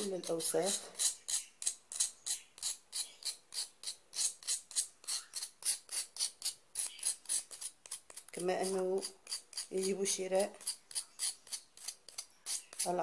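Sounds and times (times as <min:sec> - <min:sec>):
knife scraping cuttlebone: 0:00.0 - 0:13.0.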